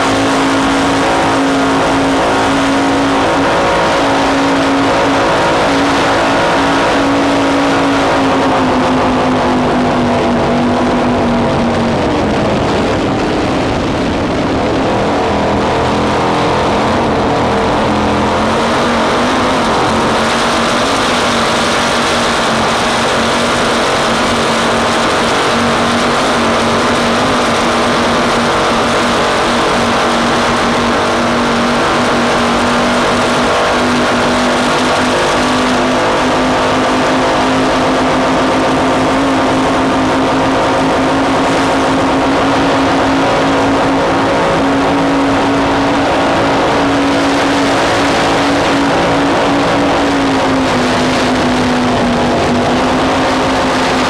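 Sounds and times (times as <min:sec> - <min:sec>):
powerboat engines droning: 0:00.0 - 0:54.0
rushing wind and water: 0:00.0 - 0:54.0.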